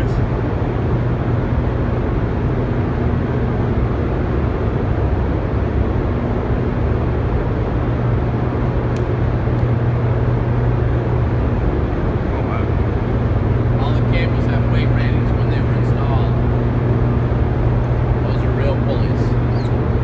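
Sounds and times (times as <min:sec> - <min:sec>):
generators humming deeply: 0:00.0 - 0:20.0.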